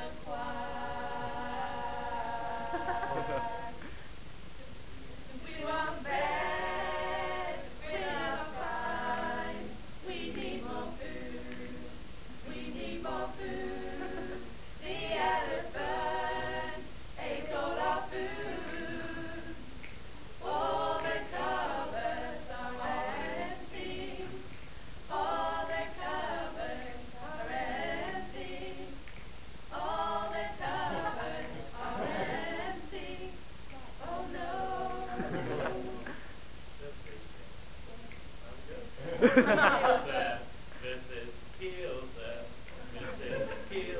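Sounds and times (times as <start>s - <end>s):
group singing a cappella: 0.0s - 4.0s, 5.3s - 29.1s, 29.7s - 36.3s, 39.0s - 43.9s.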